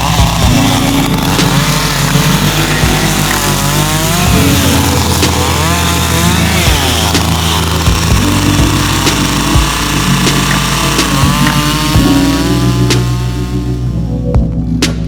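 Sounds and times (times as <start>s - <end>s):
chainsaw revving: 0.0s - 14.1s.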